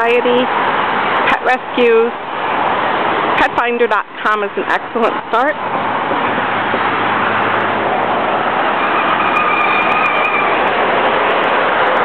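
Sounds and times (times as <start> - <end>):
passing road traffic: 0.0 - 12.0.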